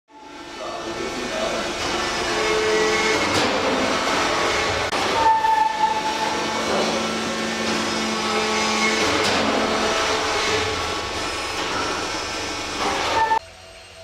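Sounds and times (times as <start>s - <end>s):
shredder grinding wood: 0.2s - 13.4s.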